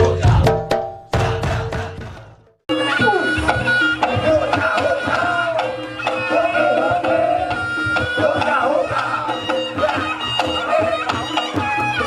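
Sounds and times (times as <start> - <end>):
hand drums beating: 0.0 - 12.0
shawm melody: 0.0 - 12.0.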